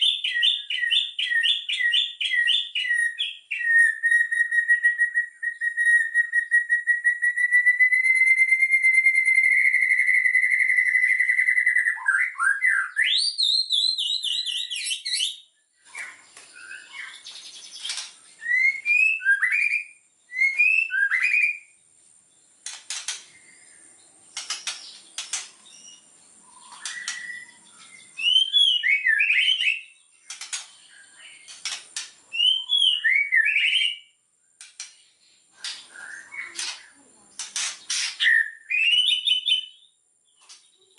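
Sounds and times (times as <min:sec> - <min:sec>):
bird singing trills and whistles: 0:00.0 - 0:21.8, 0:22.4 - 0:40.9.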